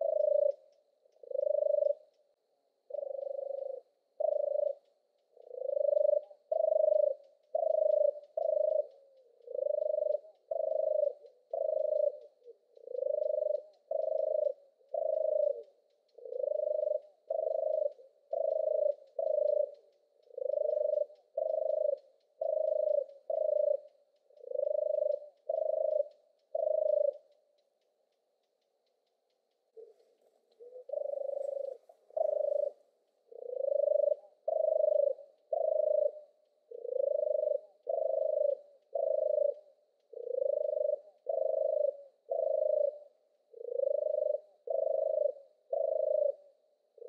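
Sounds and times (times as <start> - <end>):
dove purring song: 0.0 - 47.0.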